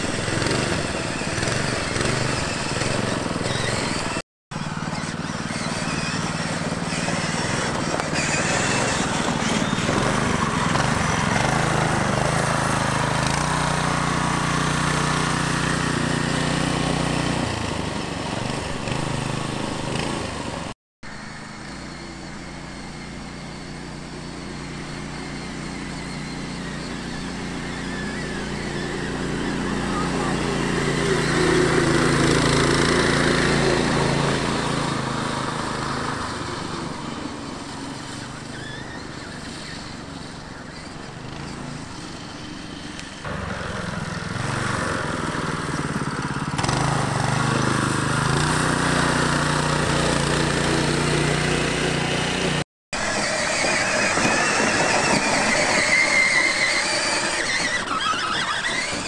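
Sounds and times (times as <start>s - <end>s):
small gas engine running: 0.0s - 59.0s.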